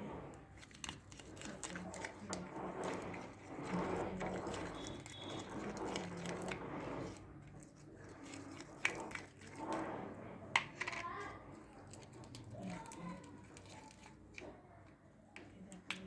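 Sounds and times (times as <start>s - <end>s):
hands squishing slime: 0.0s - 16.0s.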